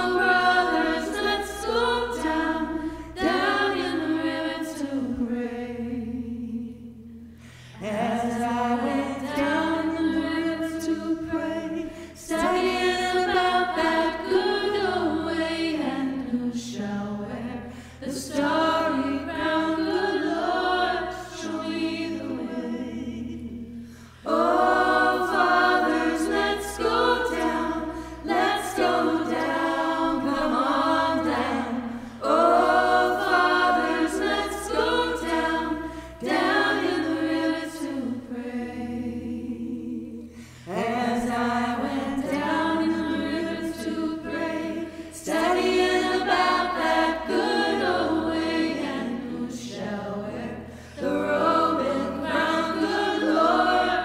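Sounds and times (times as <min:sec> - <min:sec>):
vocal trio singing in harmony: 0:00.0 - 0:54.0.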